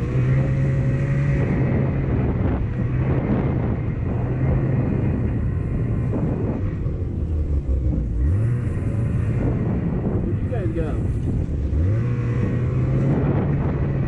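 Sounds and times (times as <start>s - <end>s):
snowmobile engine under throttle: 0.0s - 14.0s
track and wind noise: 0.0s - 14.0s.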